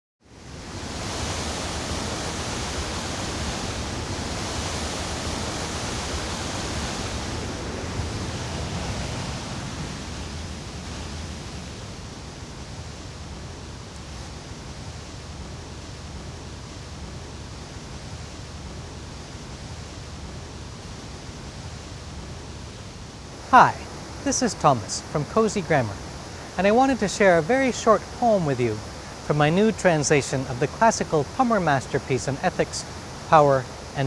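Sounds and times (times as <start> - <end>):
flowing water rushing: 0.4 - 16.0, 16.8 - 34.0.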